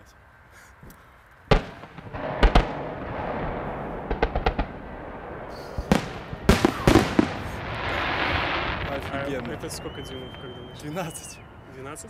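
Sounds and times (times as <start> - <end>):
firework shells bursting: 1.5 - 11.6.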